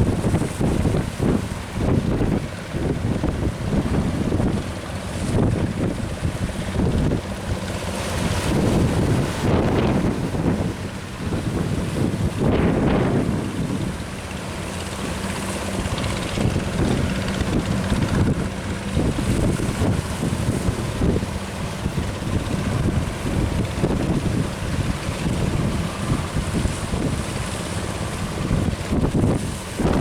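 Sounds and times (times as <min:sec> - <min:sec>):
sea and surf rushing: 0:00.0 - 0:30.0
wind buffeting microphone: 0:00.0 - 0:30.0.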